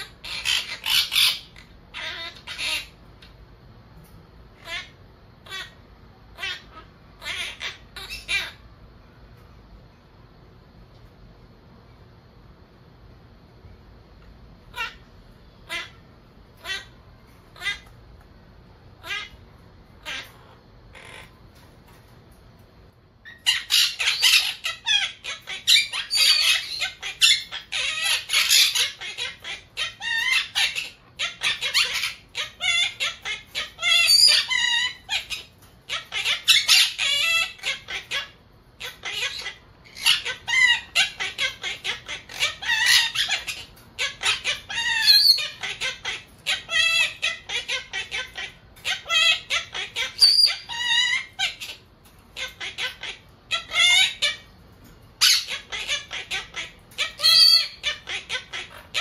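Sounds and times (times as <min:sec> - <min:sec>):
parakeets chattering and squawking: 0:00.0 - 0:12.1, 0:13.1 - 0:59.0.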